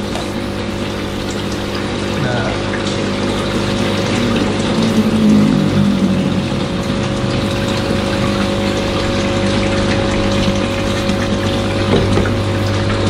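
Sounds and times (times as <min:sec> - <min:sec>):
air bubbling through water: 0:00.0 - 0:13.0
air pump humming: 0:00.0 - 0:13.0.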